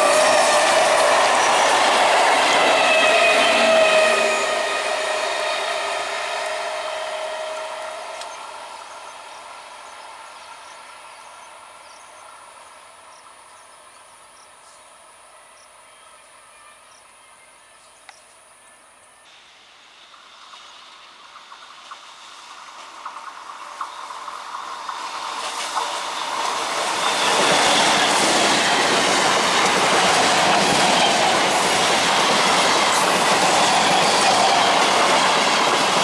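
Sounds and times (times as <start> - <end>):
electric train running past: 0.0 - 17.8, 18.7 - 36.0.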